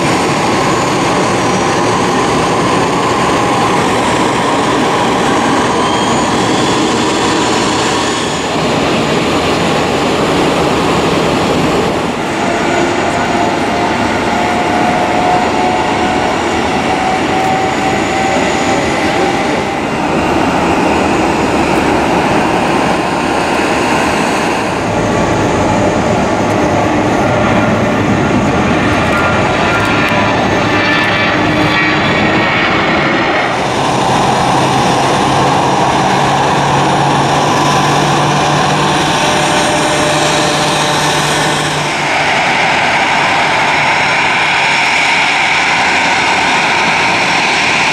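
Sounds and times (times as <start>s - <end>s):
jet engine whine: 0.0s - 47.9s
jet engines at takeoff thrust: 0.0s - 47.9s
low jet engine hum: 0.0s - 47.9s.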